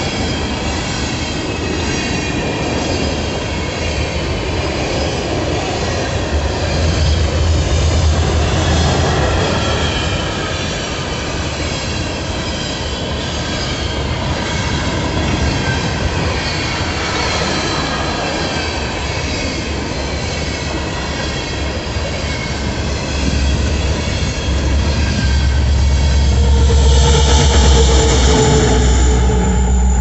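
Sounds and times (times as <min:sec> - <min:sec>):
diesel locomotive engine rumble: 0:00.0 - 0:30.0
train cars rumbling past: 0:00.0 - 0:30.0
high wheel squeal: 0:05.6 - 0:30.0.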